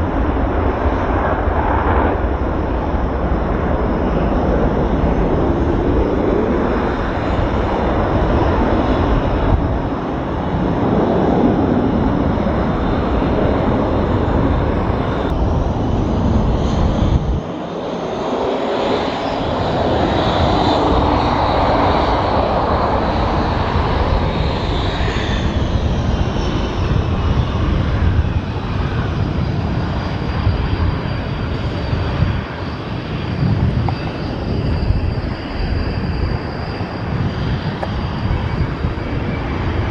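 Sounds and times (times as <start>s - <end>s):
jet engine roaring: 0.0s - 39.9s.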